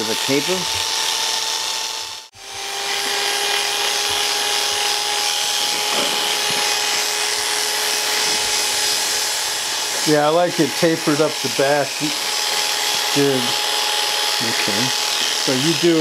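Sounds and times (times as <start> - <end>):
electric hair clippers humming: 0.0 - 16.0.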